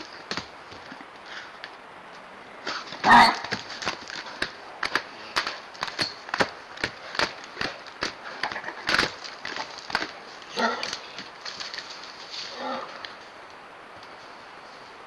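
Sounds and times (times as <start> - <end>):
hooves pounding on dry dirt: 0.0 - 13.4.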